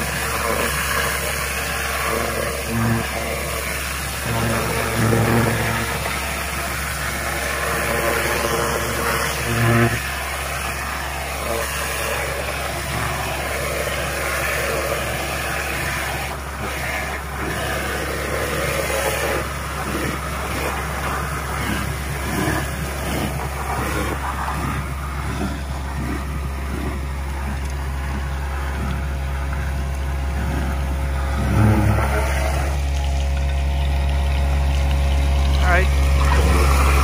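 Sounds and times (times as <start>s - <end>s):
rush of suction air: 0.0s - 32.8s
truck engine humming: 0.0s - 37.0s.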